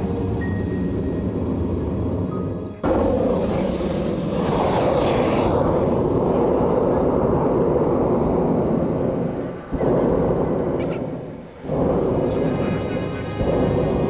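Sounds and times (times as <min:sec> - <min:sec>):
propane burner rushing: 0:00.0 - 0:14.0.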